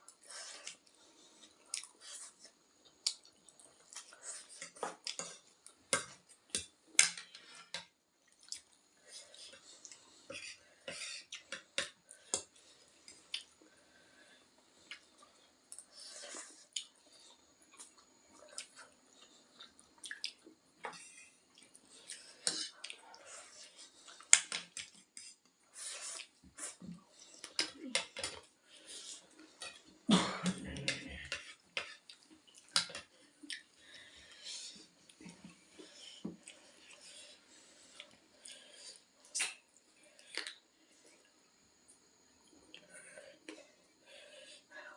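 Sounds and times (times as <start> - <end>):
slurping and chewing: 0.2 - 30.0, 30.8 - 41.3.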